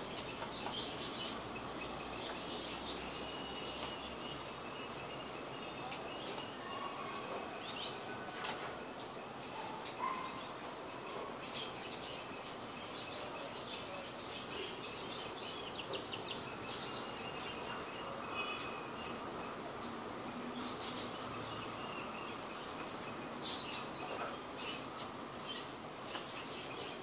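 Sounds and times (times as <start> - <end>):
small birds chirping: 0.0 - 27.0
steady background hiss: 0.0 - 27.0.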